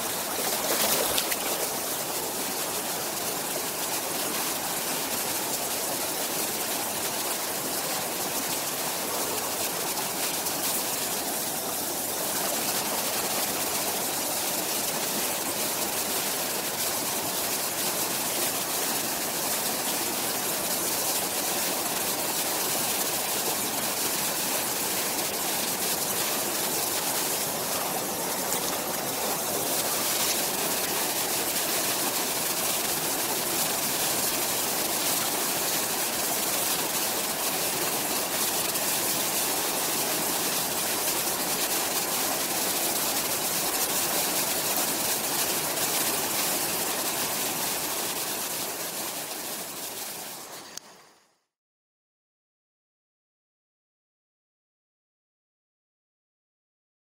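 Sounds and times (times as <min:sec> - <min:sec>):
mountain stream over rocks: 0:00.0 - 0:50.9.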